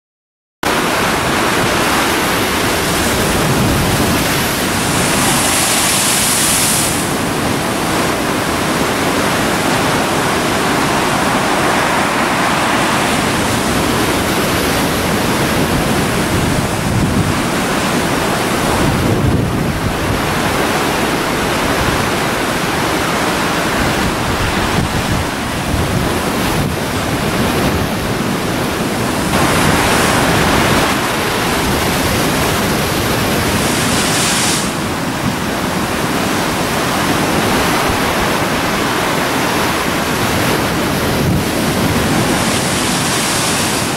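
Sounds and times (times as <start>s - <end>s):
rough sea breaking on rocks: 0.7s - 43.9s
wind on microphone: 0.7s - 43.9s.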